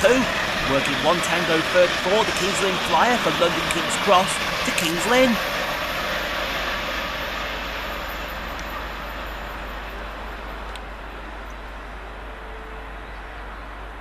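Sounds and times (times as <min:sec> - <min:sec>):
train rushing past: 0:00.0 - 0:14.0.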